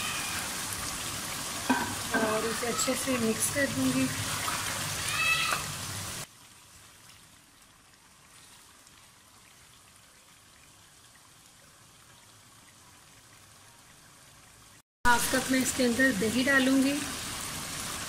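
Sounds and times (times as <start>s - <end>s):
chicken sizzling in oil: 0.0s - 13.1s, 14.0s - 18.0s.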